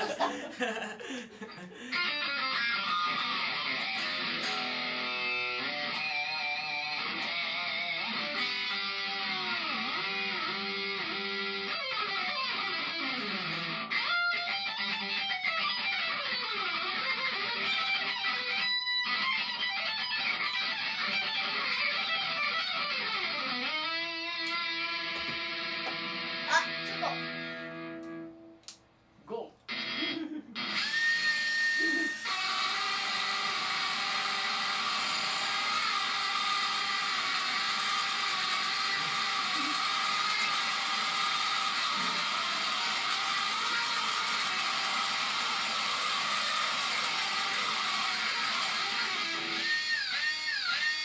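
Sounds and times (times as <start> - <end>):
electric guitar played with drill: 1.8 - 28.6, 29.7 - 51.0.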